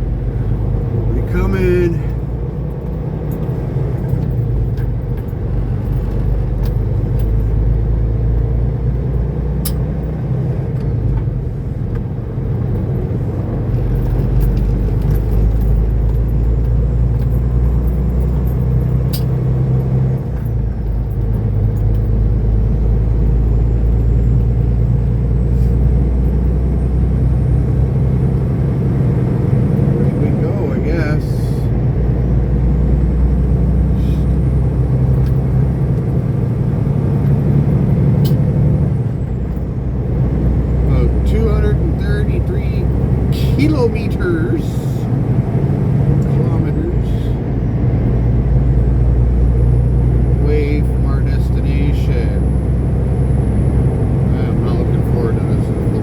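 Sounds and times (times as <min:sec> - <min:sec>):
truck diesel engine: 0:00.0 - 0:56.0.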